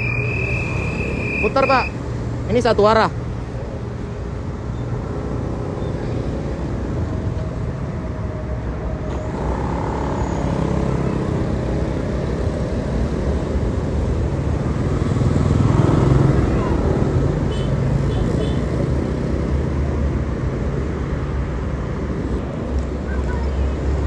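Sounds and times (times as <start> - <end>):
road traffic engines: 0.0 - 24.0.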